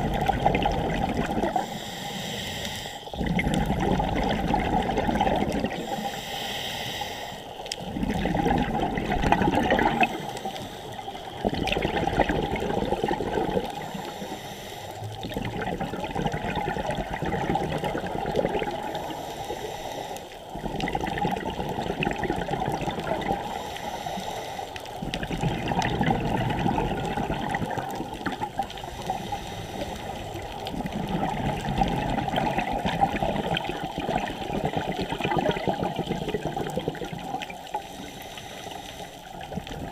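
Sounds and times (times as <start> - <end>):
underwater regulator bubbles: 0.0 - 1.9, 3.1 - 6.2, 7.6 - 14.4, 15.0 - 39.9.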